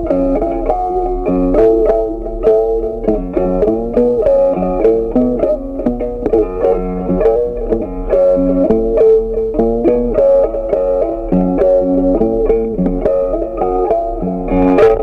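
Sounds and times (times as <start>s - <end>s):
instrumental picked melody: 0.0s - 15.0s.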